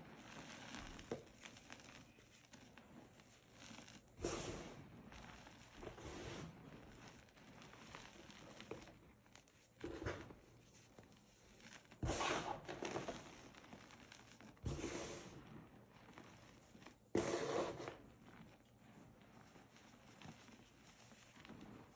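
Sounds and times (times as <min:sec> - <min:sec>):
hands crunching chalk powder: 0:00.0 - 0:21.9
loud chalk crunches: 0:00.0 - 0:21.9.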